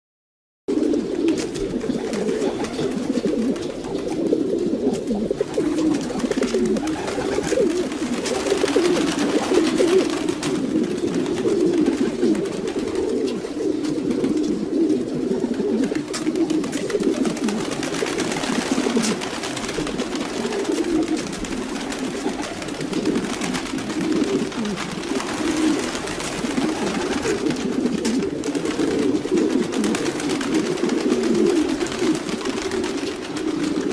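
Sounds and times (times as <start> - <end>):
pigeons cooing: 0.7 - 33.9.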